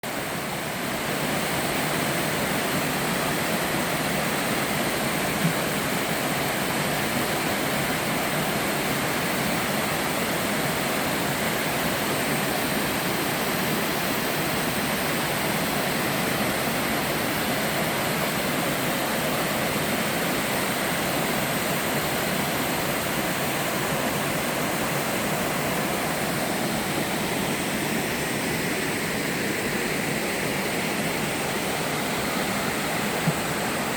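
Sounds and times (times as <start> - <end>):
water rushing down rock: 0.1 - 33.9.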